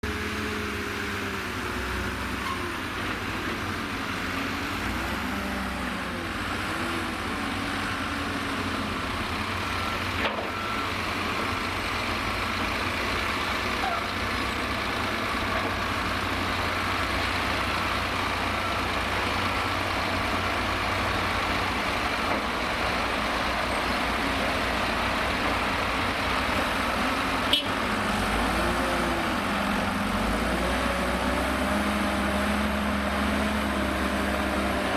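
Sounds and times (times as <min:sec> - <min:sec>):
tipper truck engine: 0:00.0 - 0:34.9
wheel loader diesel engine revving: 0:00.0 - 0:34.9.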